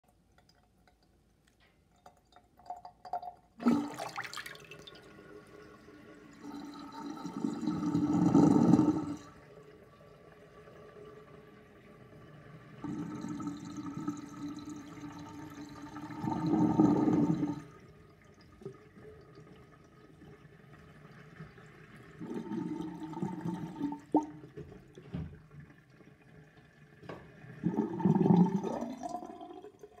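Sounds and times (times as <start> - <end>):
water gurgling down a drain: 2.6 - 30.0.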